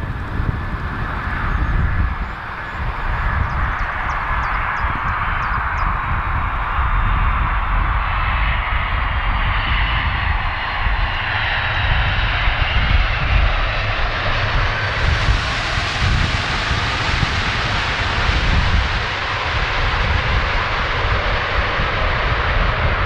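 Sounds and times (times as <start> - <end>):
jet engines landing: 0.0 - 23.0.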